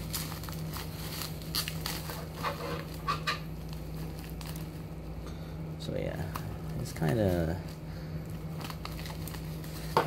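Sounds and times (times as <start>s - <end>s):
bubble wrap crinkling: 0.0s - 5.2s, 6.0s - 10.0s.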